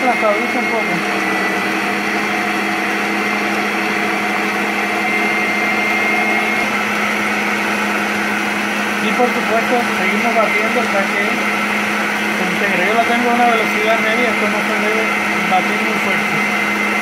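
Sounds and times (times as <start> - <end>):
stand mixer whirring: 0.0 - 17.0.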